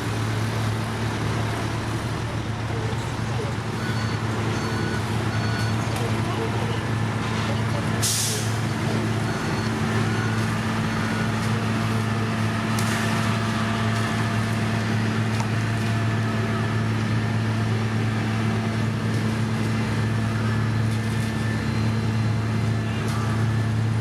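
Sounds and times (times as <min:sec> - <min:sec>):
heavy diesel machinery droning: 0:00.0 - 0:24.0.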